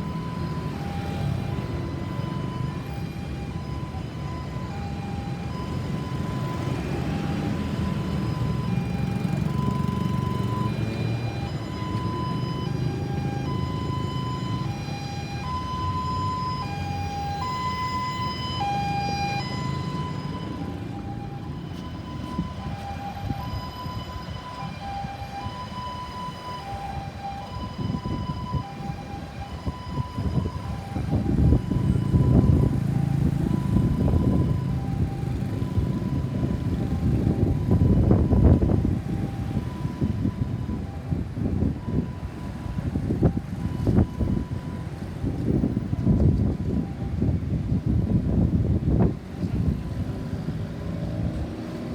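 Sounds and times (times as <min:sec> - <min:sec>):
ambulance siren two-tone wail: 0:00.0 - 0:51.9.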